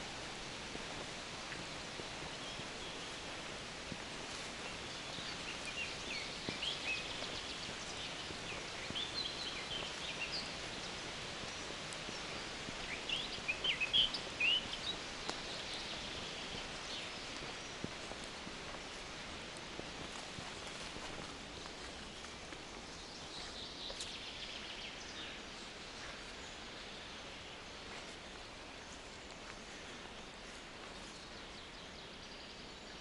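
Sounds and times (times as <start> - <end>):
background hiss: 0.0 - 33.0
songbirds chirping: 0.0 - 33.0.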